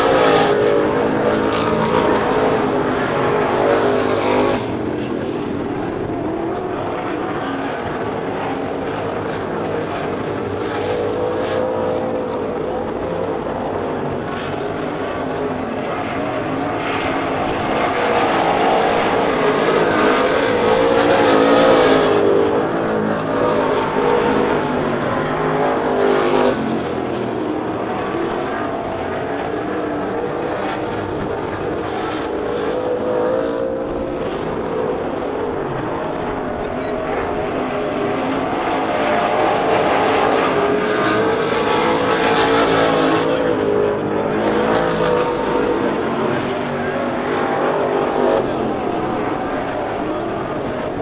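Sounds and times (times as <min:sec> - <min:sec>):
race car engines revving: 0:00.0 - 0:51.0.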